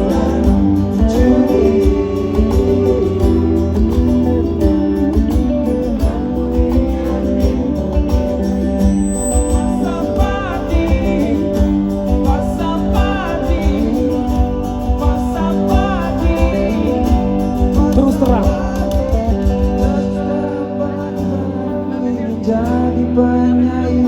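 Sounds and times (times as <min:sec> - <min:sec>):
gliding melody line: 0:00.0 - 0:23.6
live band with guitar: 0:00.0 - 0:24.0
person singing: 0:00.0 - 0:24.0.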